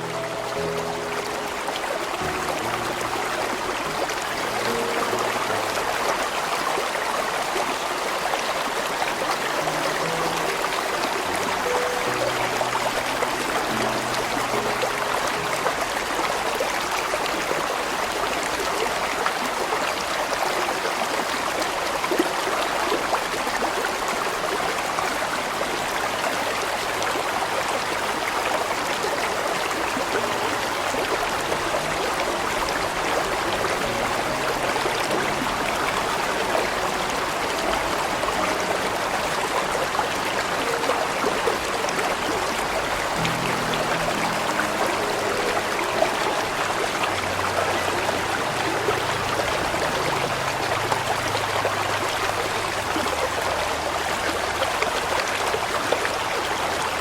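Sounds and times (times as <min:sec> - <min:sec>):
large stream flowing: 0:00.0 - 0:57.0.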